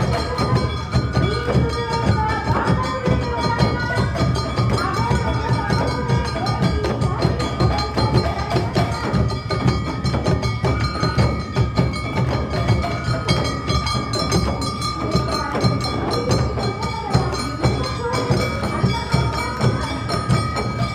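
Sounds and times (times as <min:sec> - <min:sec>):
drums: 0:00.0 - 0:20.9.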